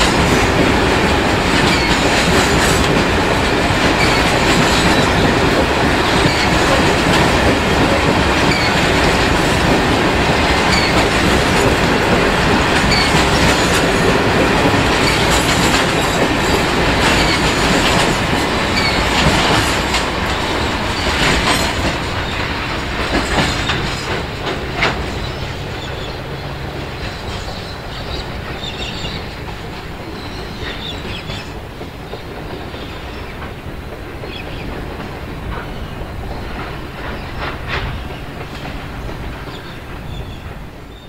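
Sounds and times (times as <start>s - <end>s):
train wheels clicking over rail joints: 0.0s - 41.0s.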